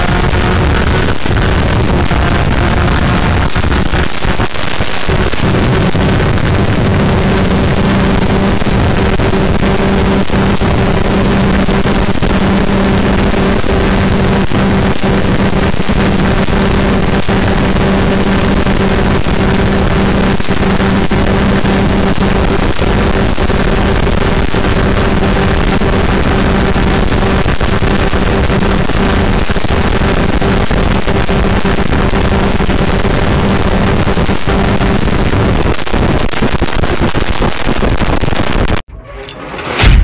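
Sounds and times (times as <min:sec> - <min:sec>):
two-stroke engine at high revs: 0:00.0 - 0:35.8.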